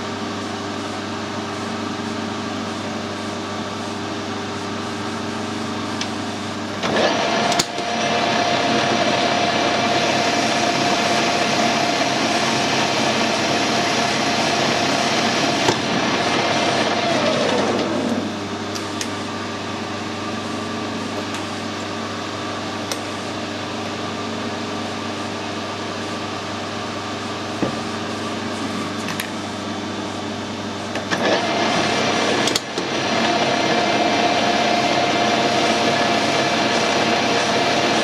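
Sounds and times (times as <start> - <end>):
metal lathe motor hum: 0.0 - 38.0
steady machine whine: 0.0 - 38.0.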